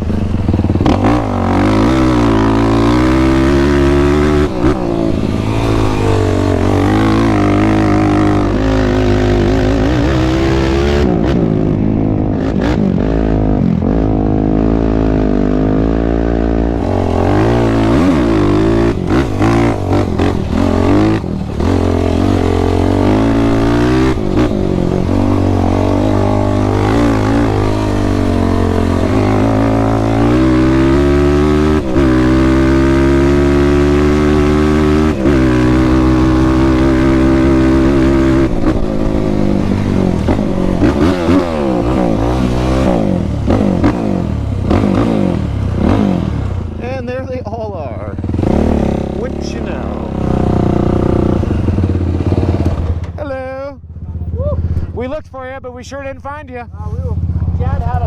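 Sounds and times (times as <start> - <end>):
quad engine running hard: 0.0 - 53.2.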